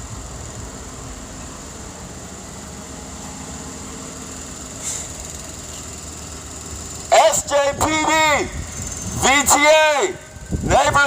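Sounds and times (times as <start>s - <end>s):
low vehicle rumble: 0.0s - 9.5s, 10.2s - 11.0s
high-pitched hiss: 0.0s - 10.8s.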